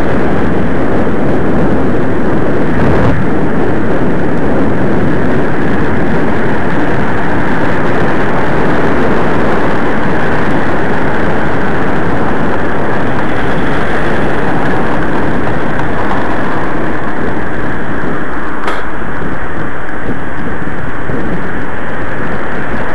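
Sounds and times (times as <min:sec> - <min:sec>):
wind rushing on microphone: 0:00.0 - 0:22.9.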